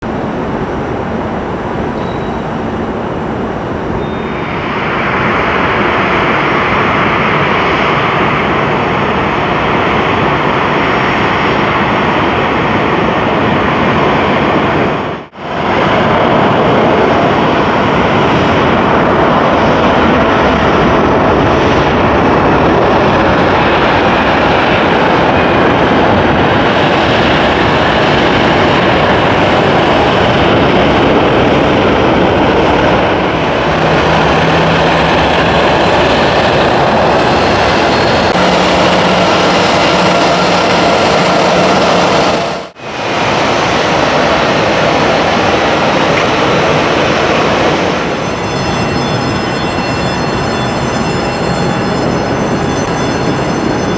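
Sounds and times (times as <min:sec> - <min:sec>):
loud jet engine noise: 0:00.0 - 0:53.9.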